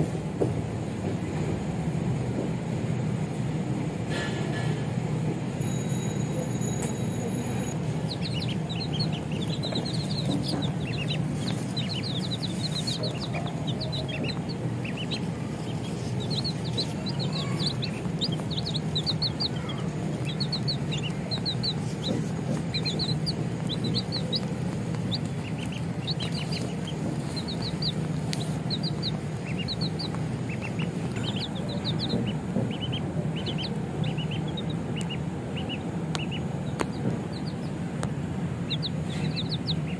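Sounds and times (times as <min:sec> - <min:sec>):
steady low hum: 0:00.0 - 0:39.9
baby chicks peeping: 0:05.6 - 0:39.9.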